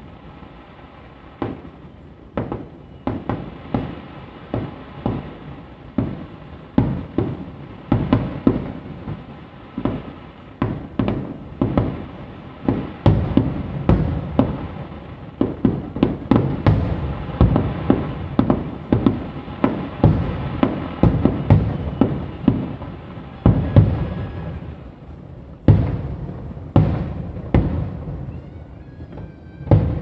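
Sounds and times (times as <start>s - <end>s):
firework shells booming: 1.4s - 30.0s.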